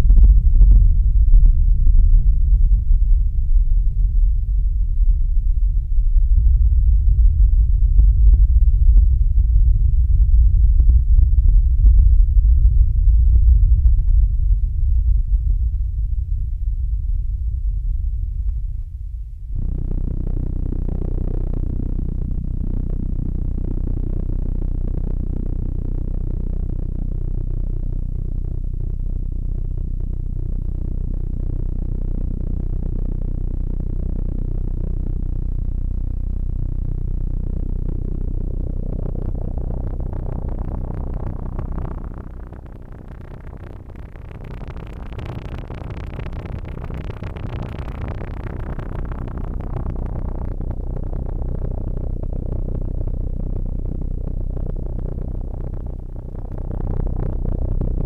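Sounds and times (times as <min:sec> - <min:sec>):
low synthesizer bass drone: 0:00.0 - 0:58.0.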